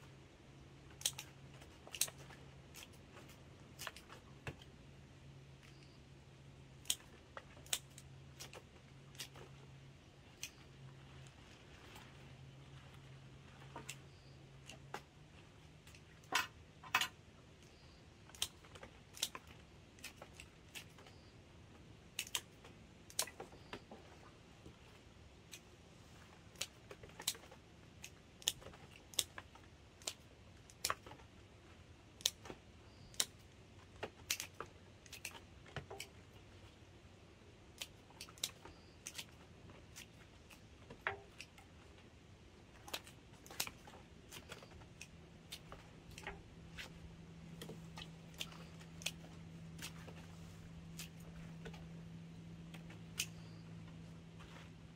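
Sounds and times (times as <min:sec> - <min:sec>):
faint low hum: 0:00.0 - 0:54.9.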